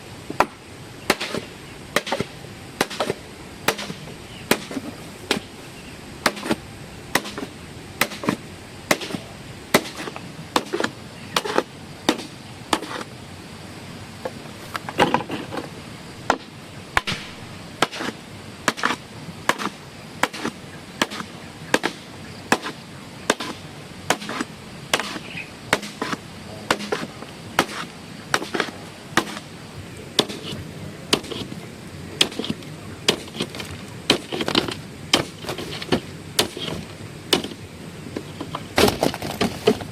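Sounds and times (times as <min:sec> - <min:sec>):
hand tool striking: 0:00.4 - 0:05.5, 0:06.2 - 0:13.1, 0:16.3 - 0:29.5, 0:30.2 - 0:31.6, 0:32.2 - 0:37.6.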